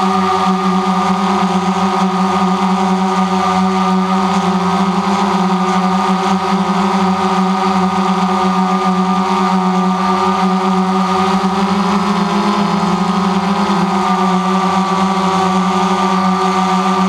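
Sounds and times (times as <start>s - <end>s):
drone propellers humming: 0.0s - 17.0s.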